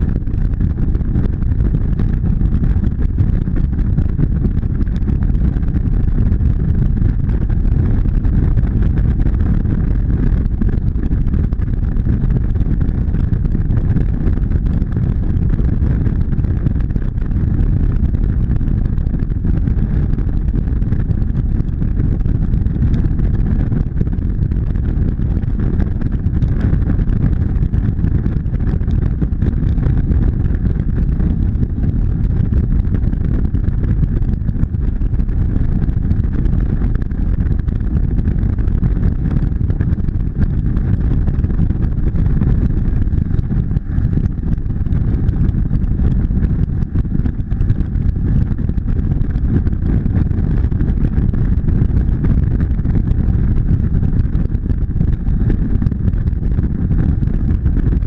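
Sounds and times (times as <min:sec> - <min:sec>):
wind on microphone: 0:00.0 - 0:58.0.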